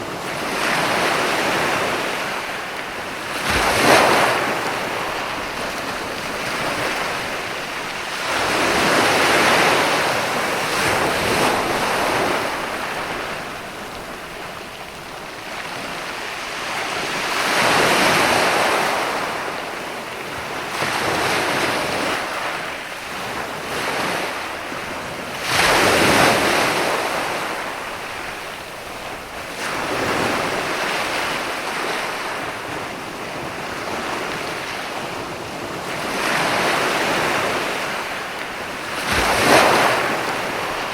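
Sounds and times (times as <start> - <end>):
ocean waves washing in: 0.0 - 40.9.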